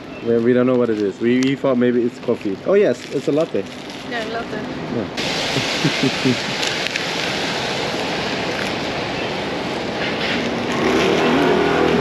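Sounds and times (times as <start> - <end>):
traffic going by: 0.0 - 12.0.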